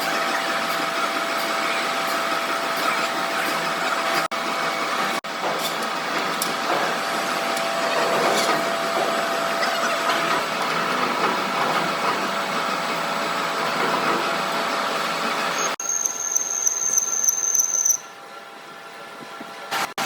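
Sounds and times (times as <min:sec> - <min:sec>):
metalworking machinery: 0:00.0 - 0:20.0.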